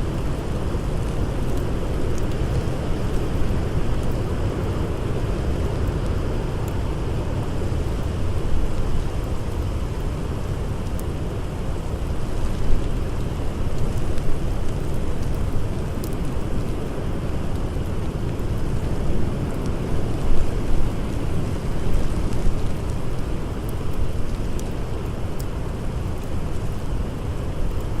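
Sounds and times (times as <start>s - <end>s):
campfire crackles: 0.0s - 28.0s.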